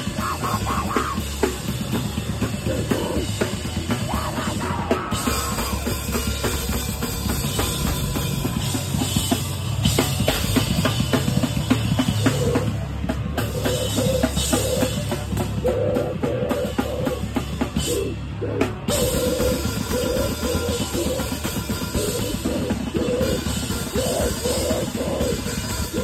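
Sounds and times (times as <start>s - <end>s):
bass guitar: 0.0s - 26.0s
rapid drumming: 0.0s - 26.0s.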